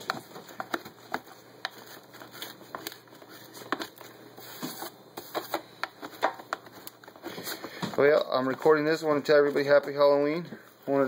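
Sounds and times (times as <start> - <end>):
tobacco rustling and crinkling: 0.0 - 11.0.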